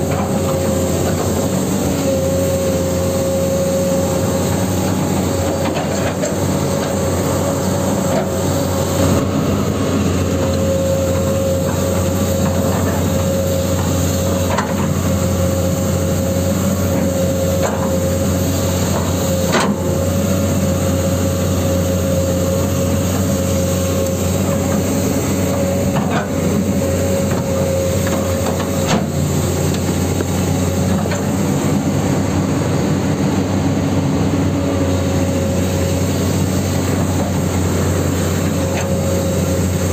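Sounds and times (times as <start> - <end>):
toy excavator droning and whining: 0.0 - 39.9.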